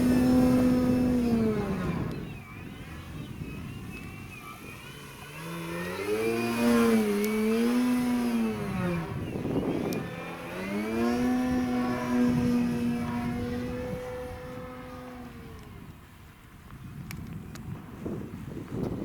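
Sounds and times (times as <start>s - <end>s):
model airplane motor whine: 0.0s - 19.0s.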